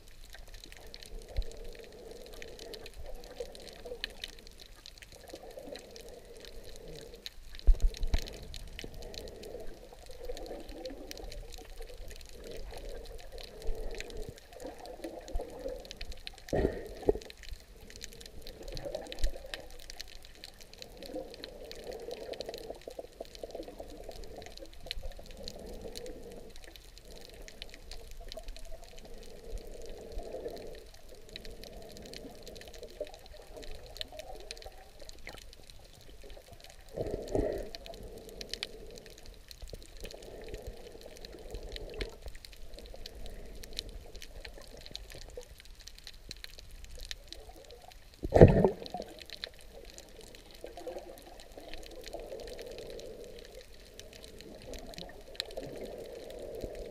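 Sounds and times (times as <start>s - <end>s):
muffled underwater swishing and bubbling: 0.0s - 56.9s.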